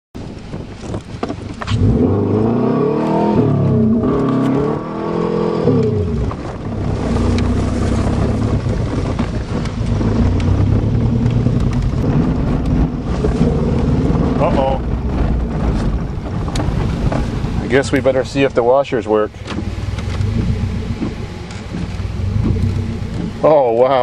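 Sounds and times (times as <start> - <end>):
car engine revving: 1.5 - 24.0.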